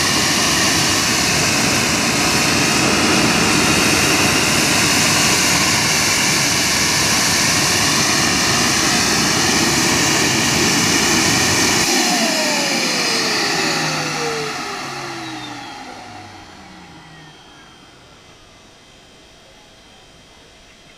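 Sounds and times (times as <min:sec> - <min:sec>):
jet engine running loudly: 0:00.0 - 0:20.2
turbine spooling down whine: 0:00.0 - 0:20.8.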